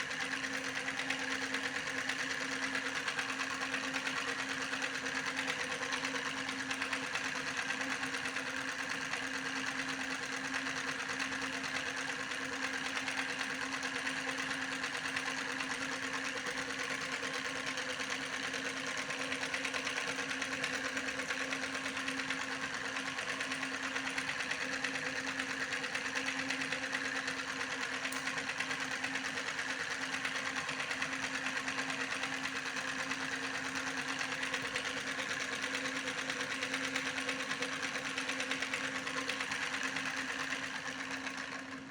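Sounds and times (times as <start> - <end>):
small motor humming and rattling: 0.0 - 41.9.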